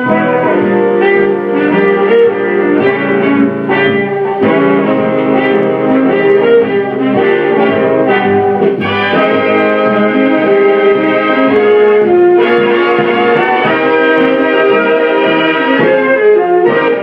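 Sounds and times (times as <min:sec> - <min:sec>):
guitar-led instrumental music: 0:00.0 - 0:17.0.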